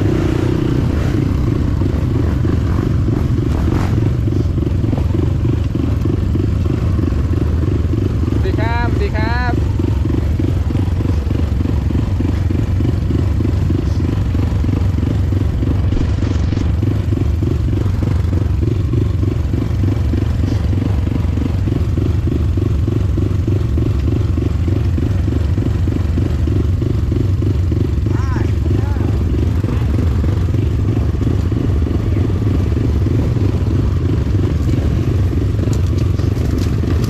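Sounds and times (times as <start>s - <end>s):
motorcycle engine throbbing: 0.0s - 37.0s.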